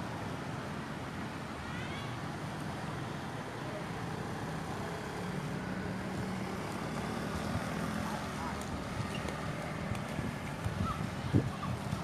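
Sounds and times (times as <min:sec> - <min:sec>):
motorcycle engines: 0:00.0 - 0:12.0
tyres on wet road: 0:00.0 - 0:12.0.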